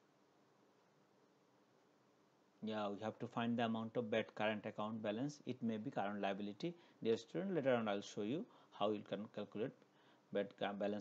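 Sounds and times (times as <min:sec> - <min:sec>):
faint steady hiss and hum: 0:00.0 - 0:11.0.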